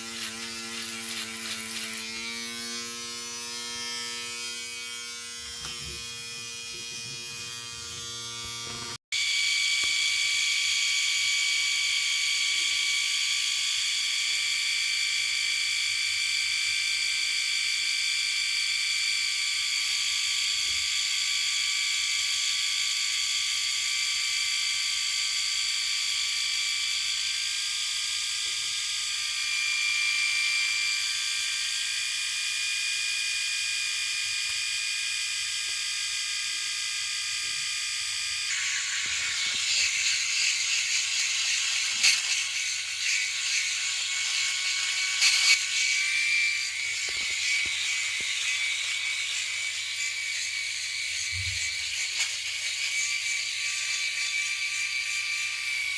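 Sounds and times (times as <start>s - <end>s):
electric shaver buzzing: 0.0s - 55.9s.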